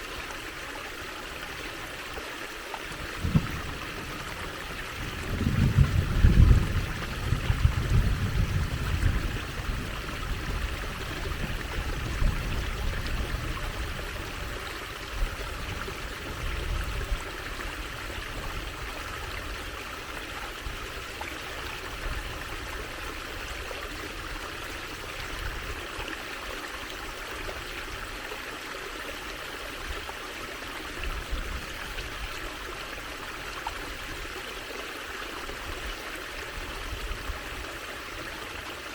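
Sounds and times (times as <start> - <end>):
trickling stream water: 0.0 - 38.9.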